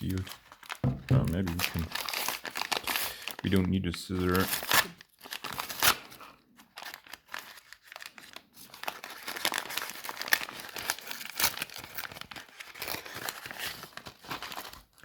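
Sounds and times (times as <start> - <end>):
packaging torn open and crinkled: 0.0 - 15.0.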